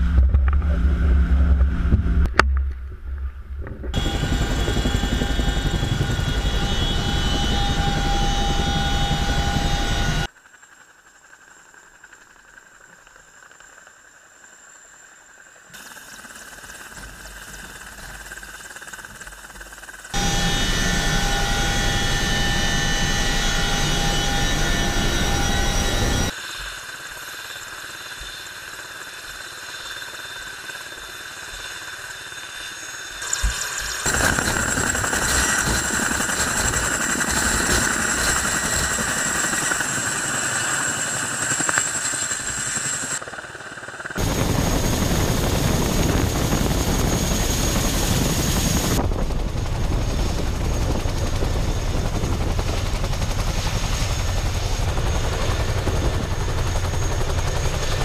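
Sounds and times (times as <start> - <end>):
helicopter rotors and turbines whining: 0.0 - 58.0.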